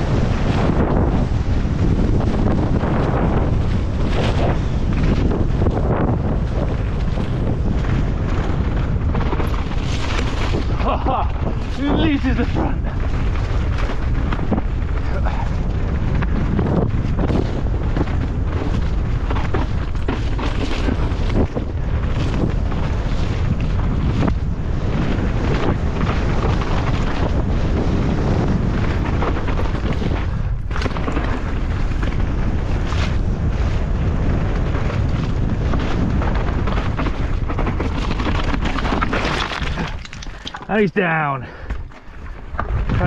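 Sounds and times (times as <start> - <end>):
wind buffeting microphone: 0.0 - 43.0
mountain bike knocks and rattles: 1.9 - 15.2, 15.8 - 40.8.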